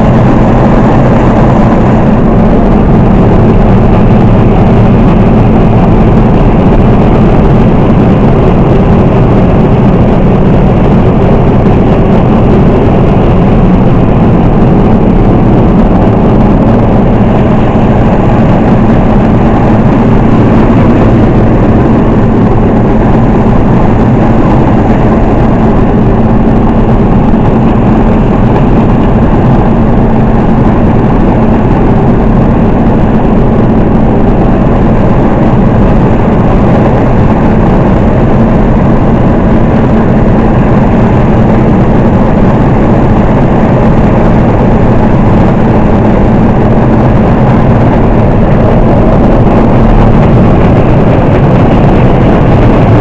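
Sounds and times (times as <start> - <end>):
combine harvester engine and threshing: 0.0 - 53.0.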